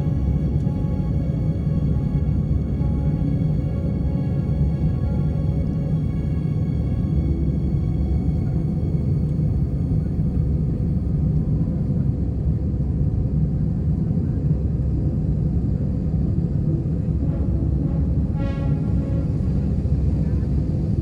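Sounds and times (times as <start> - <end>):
airliner cabin engine rumble: 0.0 - 21.0
faint constant hum: 0.0 - 21.0.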